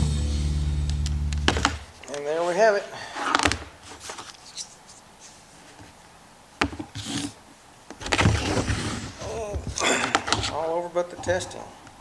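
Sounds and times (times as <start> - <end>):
rubbing and rustling: 1.3 - 11.7.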